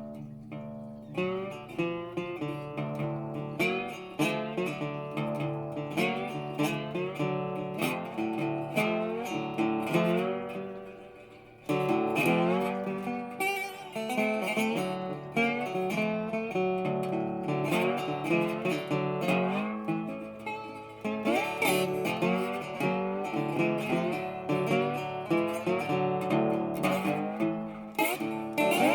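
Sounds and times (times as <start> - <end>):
acoustic guitar music: 0.0 - 28.9.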